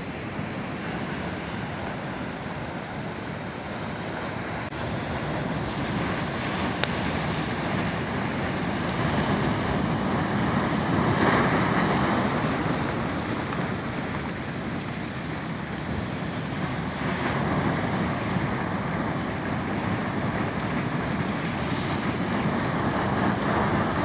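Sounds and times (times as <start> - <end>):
ocean surf breaking: 0.0 - 15.3, 16.0 - 24.0
wind on microphone: 0.0 - 24.0.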